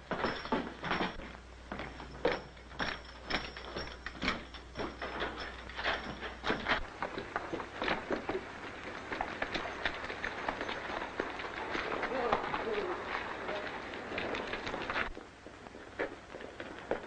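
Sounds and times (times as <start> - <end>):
sharp knocks and clatter: 0.0 - 17.0.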